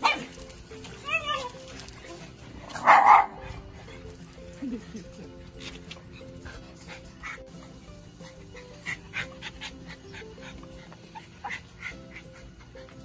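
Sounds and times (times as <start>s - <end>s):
dogs yipping and whimpering: 0.0s - 13.0s
light background music: 0.0s - 13.0s.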